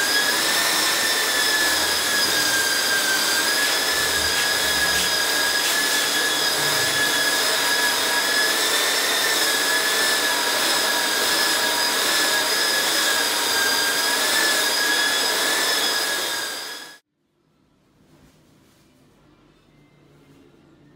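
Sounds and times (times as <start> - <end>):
belt sander grinding wood: 0.0 - 17.0
high motor whine: 0.0 - 17.0.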